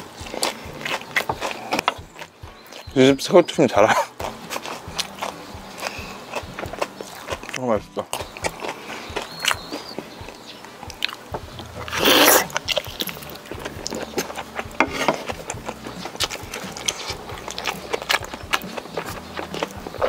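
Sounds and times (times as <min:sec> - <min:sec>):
crunchy food chewing: 0:00.0 - 0:20.0.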